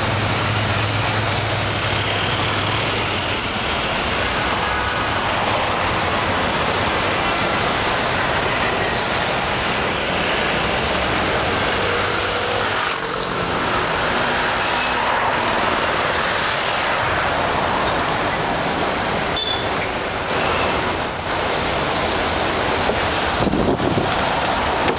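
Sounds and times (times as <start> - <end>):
car and bus engines running: 0.0 - 24.9
dense road traffic: 0.0 - 24.9.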